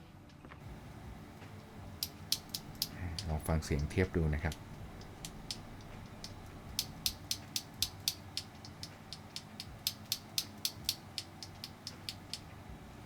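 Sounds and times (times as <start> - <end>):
mechanical keyboard switches clicking: 1.6 - 12.5.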